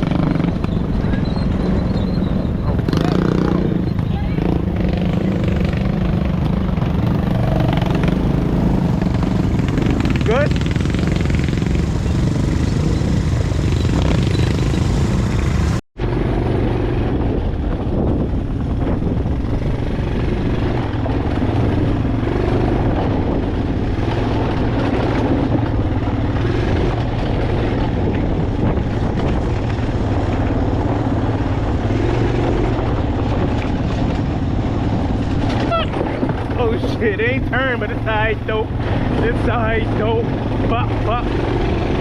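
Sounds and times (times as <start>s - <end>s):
riding noise: 0.0s - 42.0s
vehicle engine running: 0.0s - 42.0s.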